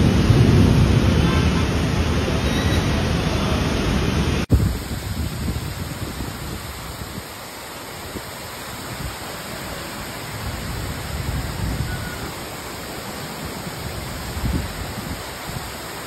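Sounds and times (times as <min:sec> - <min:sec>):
heavy rain pouring: 0:00.0 - 0:16.0
wind gusts buffeting: 0:00.0 - 0:16.0.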